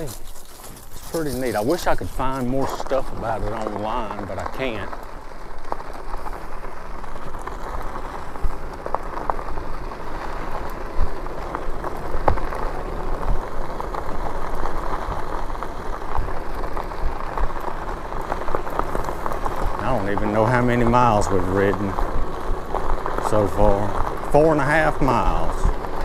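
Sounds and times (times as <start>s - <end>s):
bike tyres rolling on gravel: 0.0s - 26.0s.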